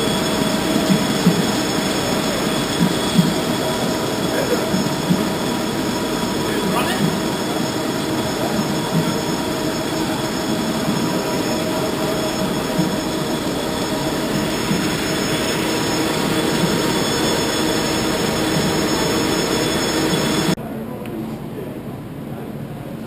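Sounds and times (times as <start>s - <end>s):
constant high tones: 0.0s - 20.6s
printing press running: 0.0s - 20.6s.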